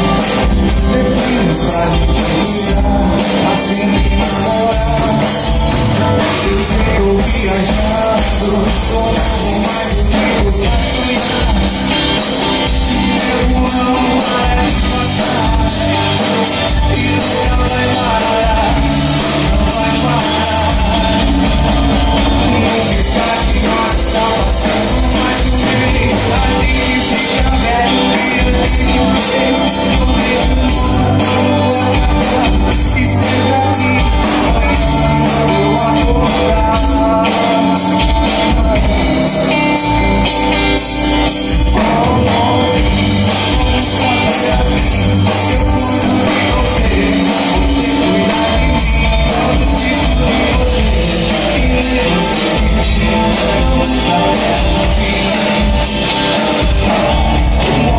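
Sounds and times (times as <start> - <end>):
band playing: 0.0 - 57.9
drum beat: 0.0 - 57.9
person singing: 0.0 - 57.9.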